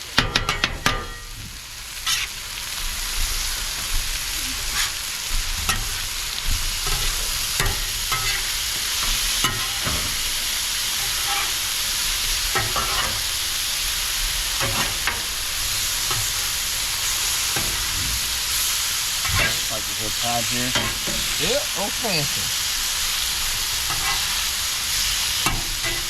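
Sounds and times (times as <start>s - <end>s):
food sizzling on a griddle: 0.0s - 26.0s.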